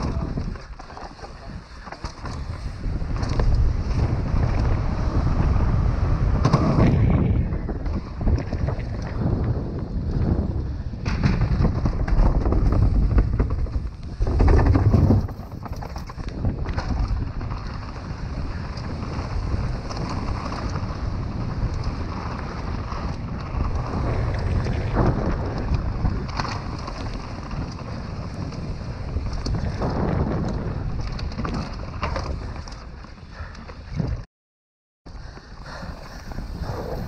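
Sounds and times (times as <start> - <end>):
bike rattling over bumps: 0.0 - 34.2, 35.1 - 37.0
wind buffeting microphone: 0.0 - 34.3, 35.1 - 37.0.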